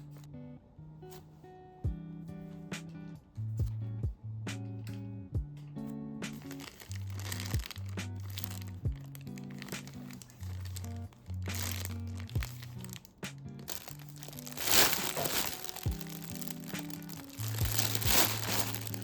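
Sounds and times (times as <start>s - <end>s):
music with bass and beat: 1.8s - 19.0s.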